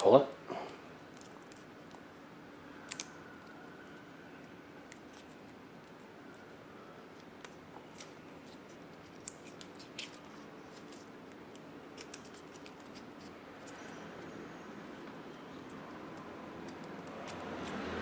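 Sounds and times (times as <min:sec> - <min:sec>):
faint steady hum: 0:00.0 - 0:18.0
tape crinkling and crackling: 0:00.6 - 0:18.0.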